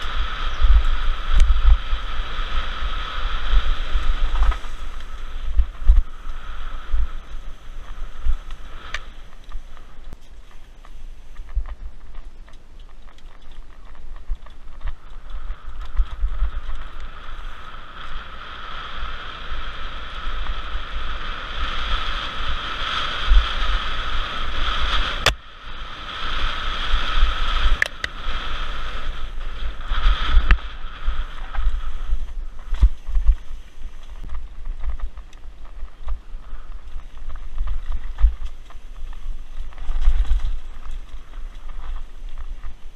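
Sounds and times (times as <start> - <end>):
bike rumble over bumps: 0.0 - 42.9
wind buffeting: 0.0 - 42.9.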